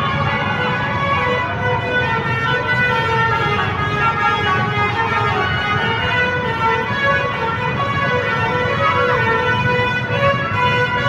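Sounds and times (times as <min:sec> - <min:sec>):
bus multi-tone air horn tune: 0:00.0 - 0:11.0.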